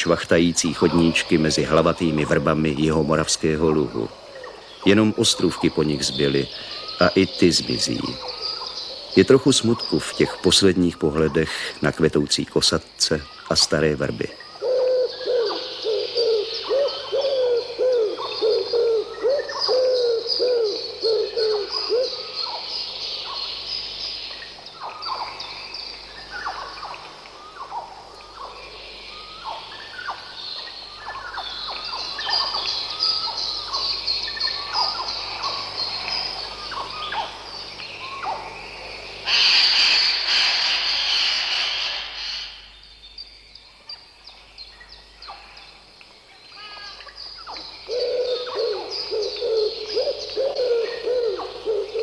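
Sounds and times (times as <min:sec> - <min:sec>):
birds chirping and whistling: 0:00.0 - 0:12.3, 0:13.0 - 0:45.8, 0:46.7 - 0:52.0.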